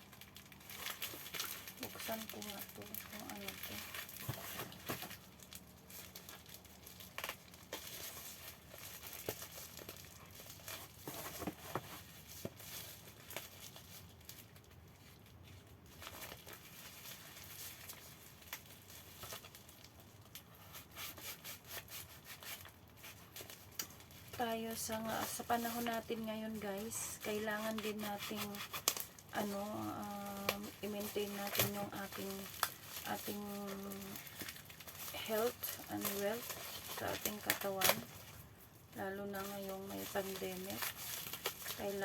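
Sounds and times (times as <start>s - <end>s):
packaging torn and crinkled: 0.0s - 42.0s.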